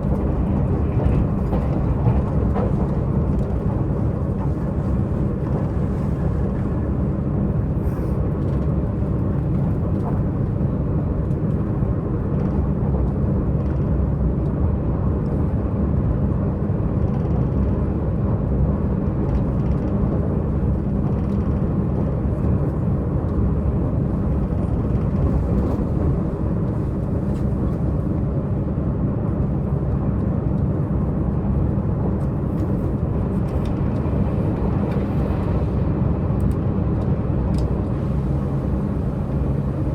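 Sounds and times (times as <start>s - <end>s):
train diesel engine drone: 0.0s - 39.9s.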